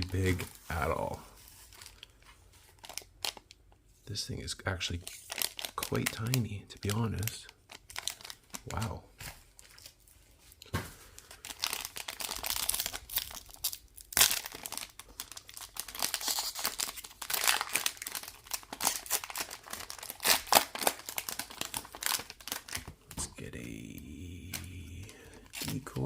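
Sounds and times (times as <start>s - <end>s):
wrapper crinkling and tearing: 0.0s - 3.6s, 4.9s - 23.0s, 24.4s - 26.0s.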